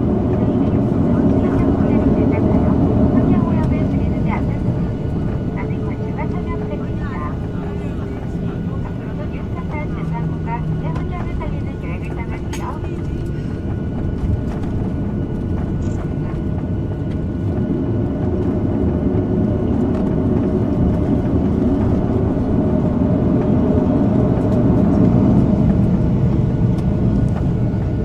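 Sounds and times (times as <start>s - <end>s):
aircraft cabin engine rumble: 0.0s - 28.0s.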